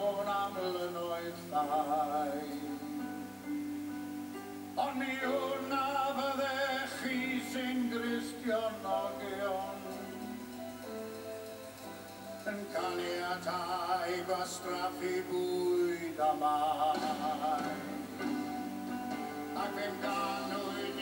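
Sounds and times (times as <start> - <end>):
man singing into microphone: 0.0 - 3.5, 4.8 - 10.5, 12.4 - 18.6, 19.4 - 21.0
instrumental accompaniment: 2.4 - 21.0.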